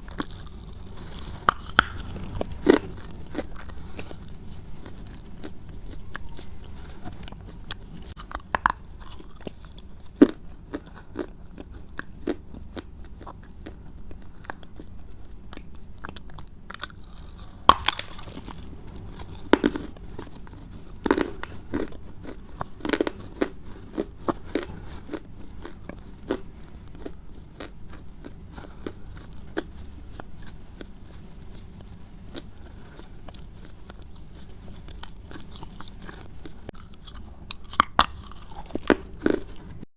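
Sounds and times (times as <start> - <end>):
crunchy chewing: 0.0 - 39.9
faint low hum: 0.0 - 39.9.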